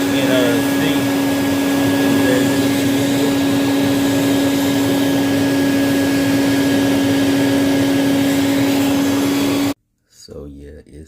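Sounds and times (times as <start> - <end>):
wet dry vacuum running: 0.0 - 9.8.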